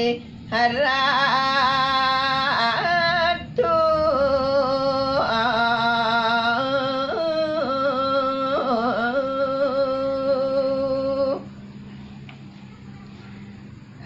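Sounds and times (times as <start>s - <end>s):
person singing long ornamented notes: 0.0s - 11.5s.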